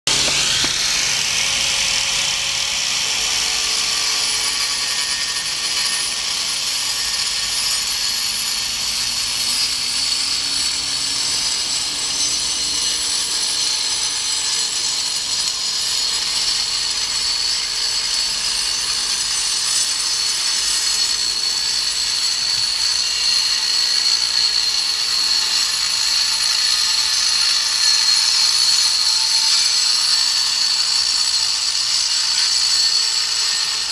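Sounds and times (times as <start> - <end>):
angle grinder cutting masonry: 0.1 - 33.9.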